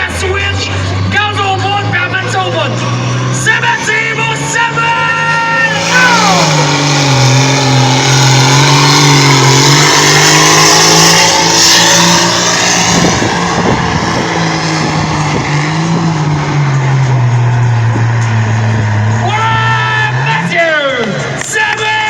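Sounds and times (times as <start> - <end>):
engine running hard under load: 0.0 - 20.4.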